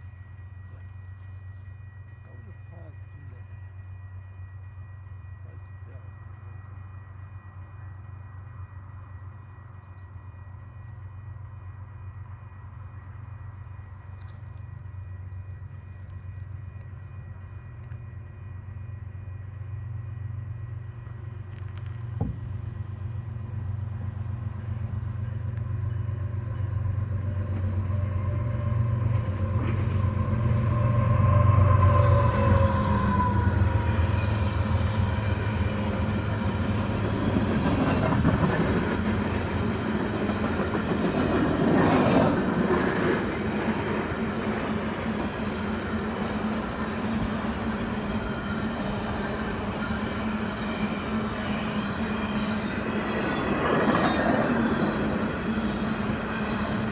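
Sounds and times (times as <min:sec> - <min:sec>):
diesel locomotive engine hum: 0:00.0 - 0:56.9
train cars rumbling on rails: 0:00.0 - 0:56.9.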